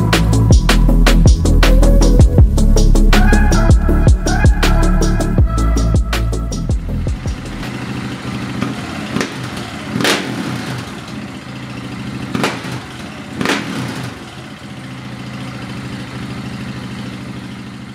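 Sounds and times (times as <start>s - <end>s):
exhaust cracks: 0.0s - 17.9s
motorcycle engine idling: 0.0s - 17.9s.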